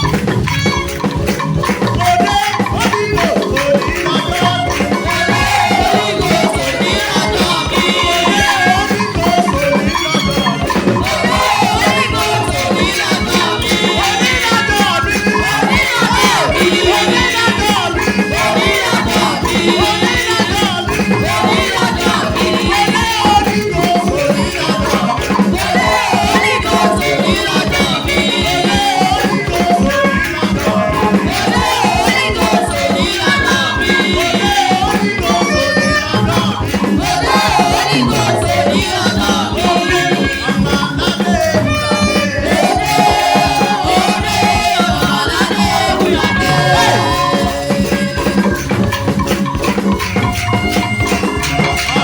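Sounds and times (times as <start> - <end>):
drums beating: 0.0 - 52.0
many voices singing: 0.0 - 52.0.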